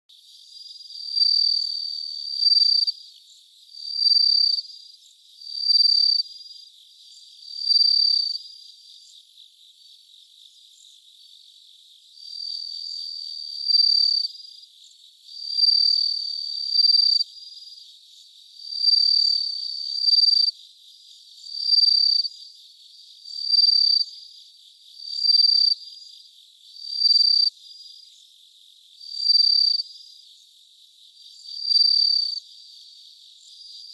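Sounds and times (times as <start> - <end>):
cricket ringing chirps: 0.2 - 11.0, 15.2 - 28.2, 29.0 - 33.9.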